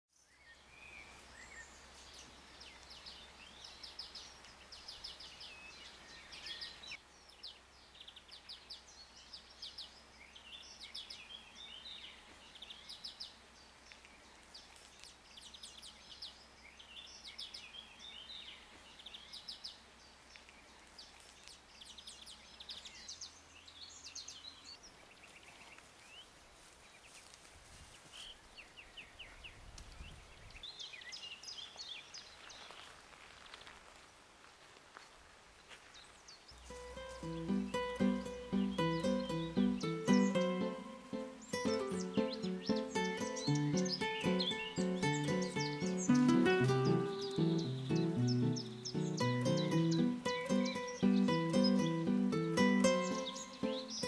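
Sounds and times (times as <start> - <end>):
songbirds chirping and trilling: 0.1 - 32.9, 35.6 - 54.0.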